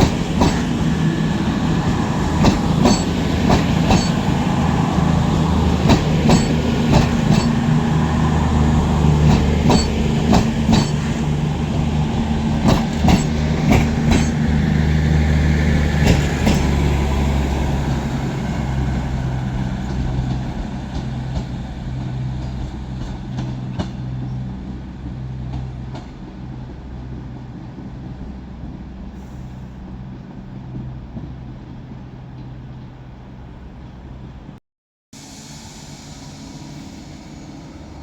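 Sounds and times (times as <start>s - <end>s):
diesel train engine humming: 0.0s - 34.6s.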